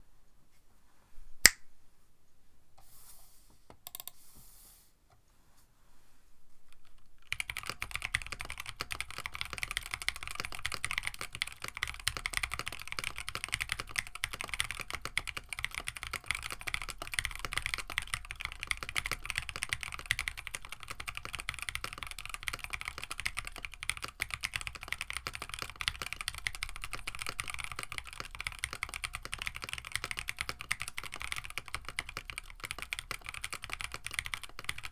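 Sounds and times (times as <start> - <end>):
typing on mechanical keyboard: 3.8 - 4.2, 7.2 - 34.9.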